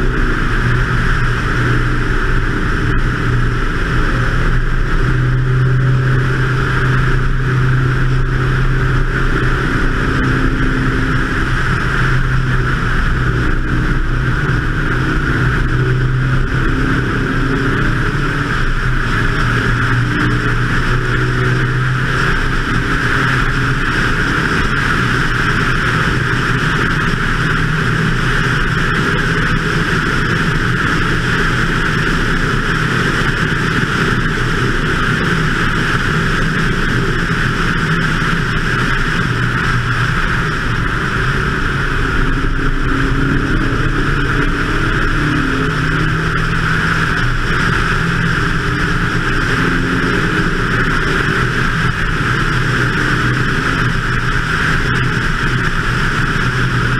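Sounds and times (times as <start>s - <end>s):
race car engine at speed: 0.0s - 56.9s
wind rushing on microphone: 0.0s - 56.9s.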